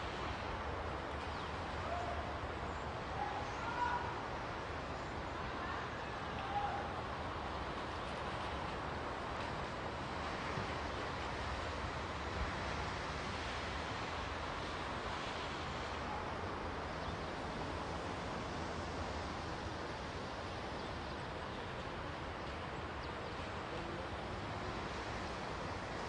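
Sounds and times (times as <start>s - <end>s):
outdoor hiss and low rumble: 0.0s - 26.0s.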